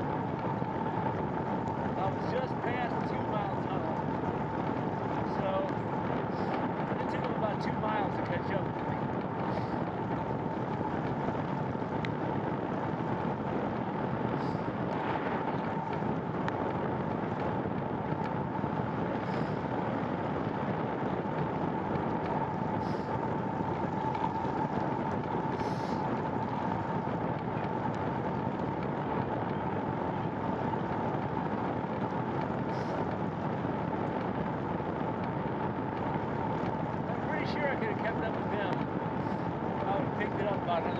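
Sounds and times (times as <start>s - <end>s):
bicycle tyre noise: 0.0s - 40.9s
faint steady whine: 0.0s - 40.9s
rushing wind: 0.0s - 40.9s.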